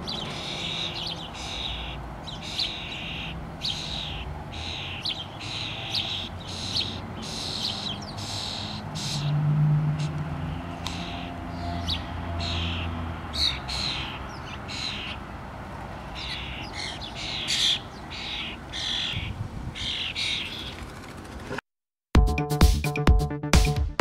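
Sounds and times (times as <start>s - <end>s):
starlings raspy calls: 0.0s - 15.3s, 15.9s - 20.9s.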